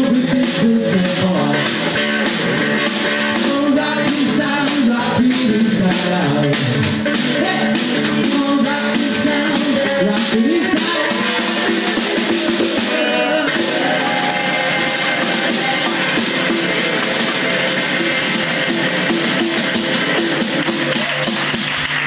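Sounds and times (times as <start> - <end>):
electric guitar playing: 0.0 - 22.0
snare drum beat: 0.6 - 22.0.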